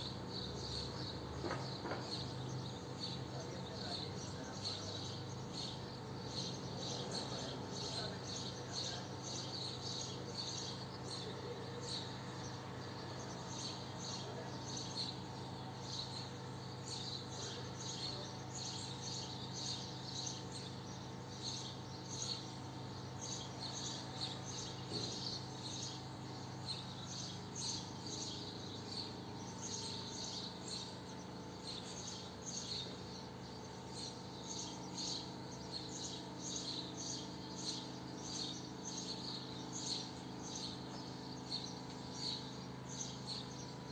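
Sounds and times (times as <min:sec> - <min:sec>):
steady low hum: 0:00.0 - 0:43.9
swallows twittering: 0:00.0 - 0:43.9.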